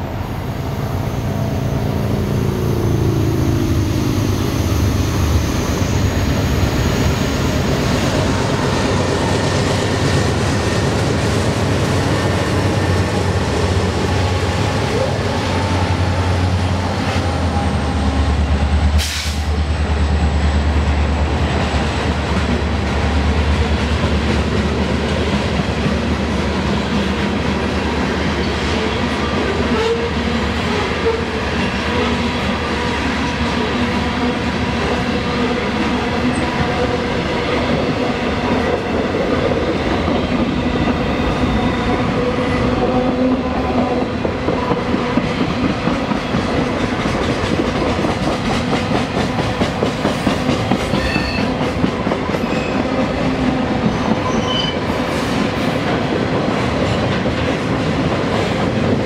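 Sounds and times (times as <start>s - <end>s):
diesel locomotive drone: 0.0s - 59.0s
train wheels rolling on rails: 0.0s - 59.0s.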